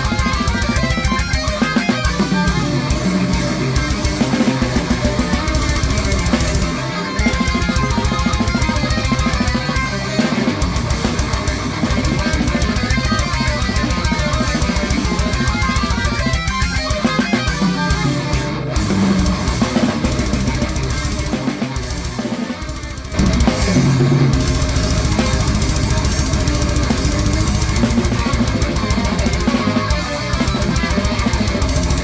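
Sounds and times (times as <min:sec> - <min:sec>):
distorted electric guitar riffing: 0:00.0 - 0:32.0.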